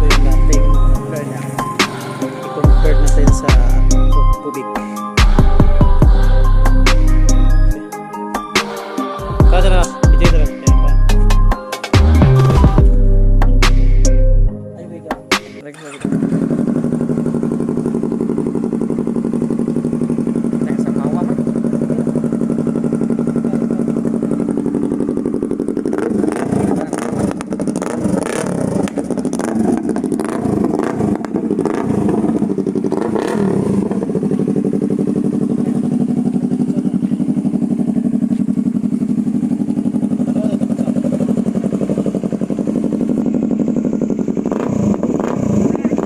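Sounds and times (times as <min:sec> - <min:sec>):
motorcycle engine idling: 0:00.0 - 0:14.0, 0:15.6 - 0:46.0.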